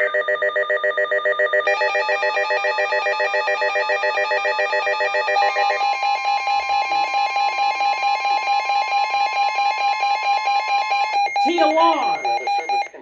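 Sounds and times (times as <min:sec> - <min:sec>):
steady warning alarm tone: 0:00.0 - 0:04.6, 0:05.3 - 0:13.0
rapid electronic alarm beeps: 0:00.0 - 0:13.0.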